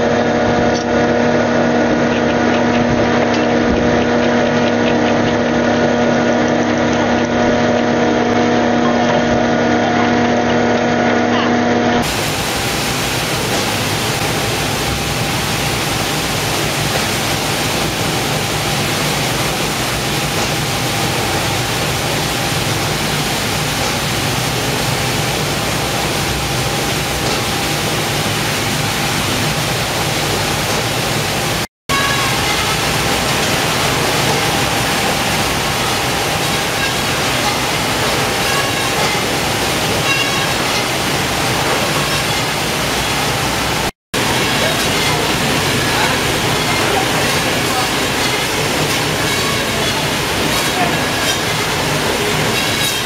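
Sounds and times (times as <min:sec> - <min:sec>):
processing machinery noise: 0:00.0 - 0:53.0.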